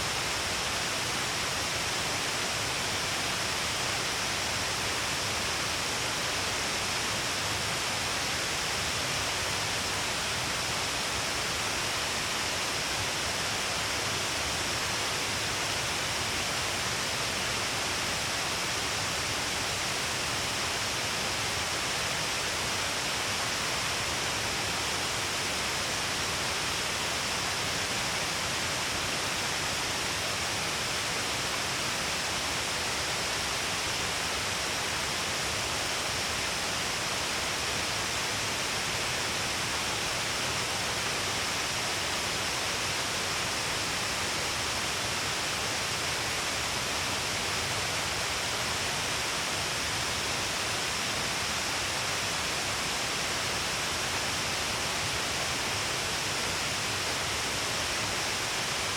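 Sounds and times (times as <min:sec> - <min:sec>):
rush of falling water: 0:00.0 - 0:58.9.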